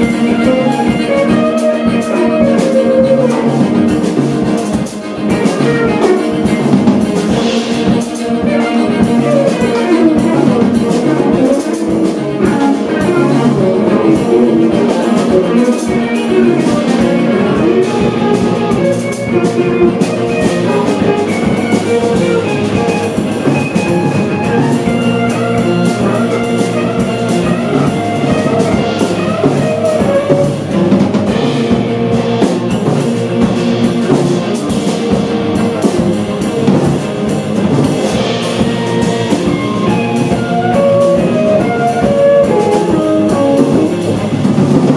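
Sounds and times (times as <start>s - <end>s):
cello: 0.0s - 44.9s
drum kit: 0.0s - 44.9s
electric guitar: 0.0s - 44.9s
tenor saxophone: 0.0s - 44.9s.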